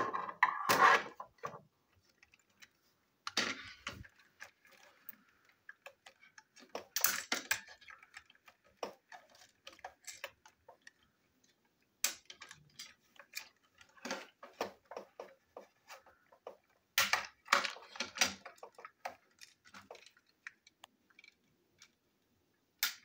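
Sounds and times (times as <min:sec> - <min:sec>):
plastic toy train clicks and taps: 0:03.3 - 0:22.0, 0:22.8 - 0:23.0.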